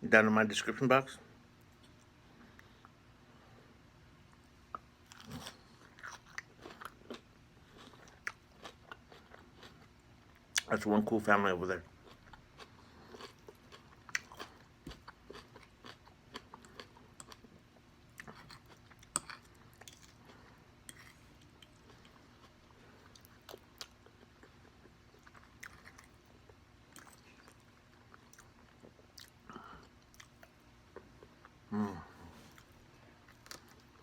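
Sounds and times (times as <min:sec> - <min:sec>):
person chewing food: 0:04.3 - 0:10.7, 0:12.0 - 0:31.6, 0:32.3 - 0:34.0.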